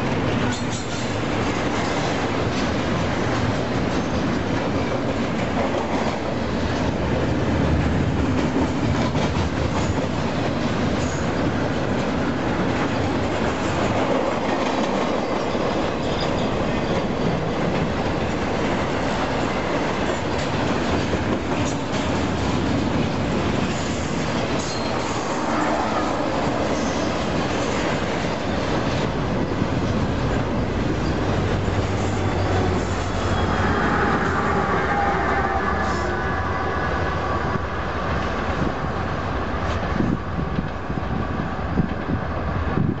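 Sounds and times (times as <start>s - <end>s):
freight train wheels clacking: 0.0s - 36.2s.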